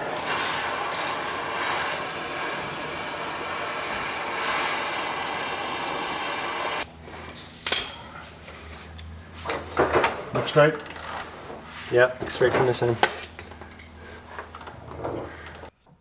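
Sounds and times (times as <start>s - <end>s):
propane torch roaring: 0.0s - 15.7s.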